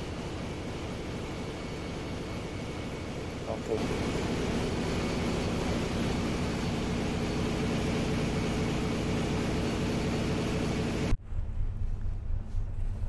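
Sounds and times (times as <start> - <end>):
ship machinery drone: 0.0 - 13.0.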